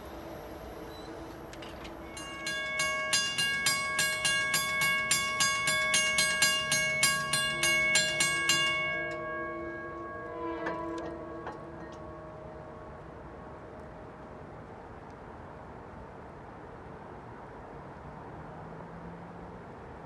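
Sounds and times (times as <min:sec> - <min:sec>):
railroad crossing bell ringing: 0:00.0 - 0:16.4.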